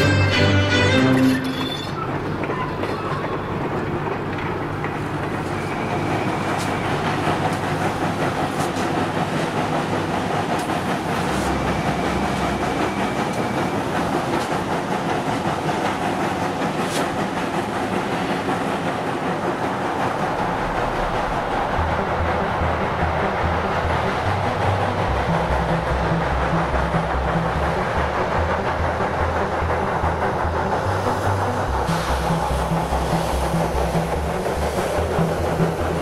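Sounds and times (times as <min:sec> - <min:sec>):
steam train running: 0:00.0 - 0:36.0.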